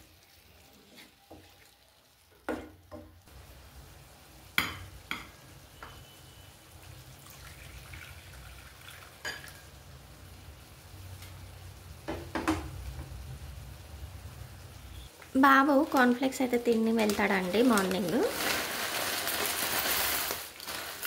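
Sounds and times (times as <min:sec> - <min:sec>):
chicken frying in a pan: 0:00.0 - 0:21.0.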